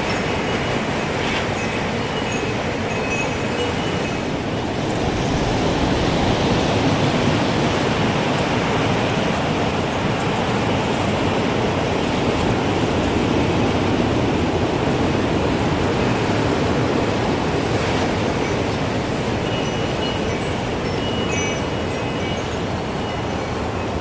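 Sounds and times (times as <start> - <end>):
strong wind blowing: 0.0 - 24.0.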